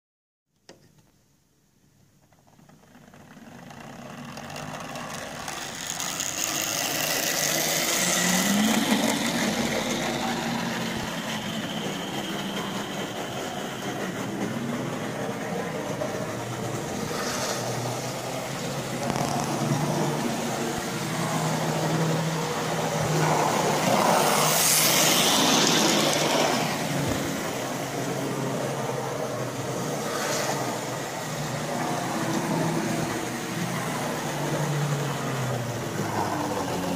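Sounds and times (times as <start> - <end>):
model train wheels on rails: 2.2 - 36.9
model train motor hum: 2.7 - 36.9.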